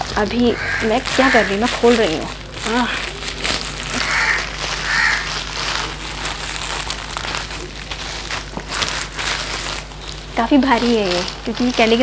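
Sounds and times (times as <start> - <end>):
plastic mailer bag crinkling: 0.0 - 12.0.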